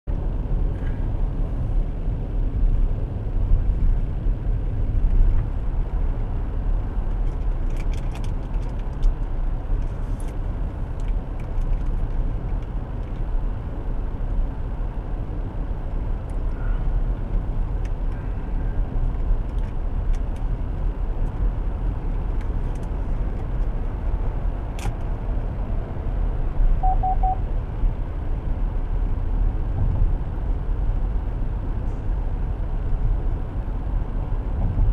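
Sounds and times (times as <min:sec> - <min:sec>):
car interior road rumble: 0:00.1 - 0:34.9.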